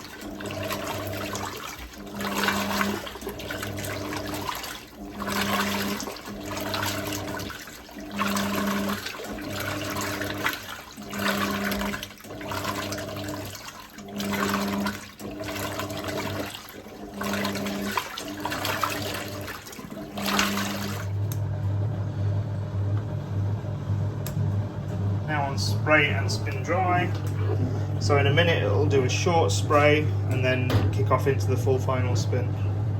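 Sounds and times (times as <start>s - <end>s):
washing machine sloshing water: 0.0s - 21.4s, 25.2s - 32.5s
washing machine motor hum: 0.0s - 32.9s.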